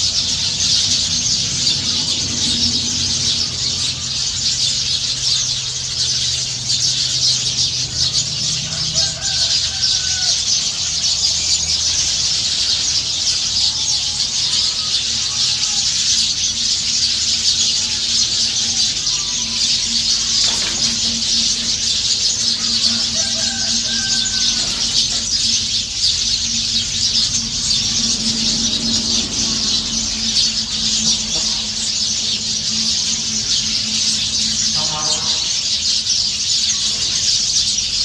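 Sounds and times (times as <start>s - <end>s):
flock of birds chattering: 0.0s - 38.0s
low steady hum: 0.0s - 38.0s.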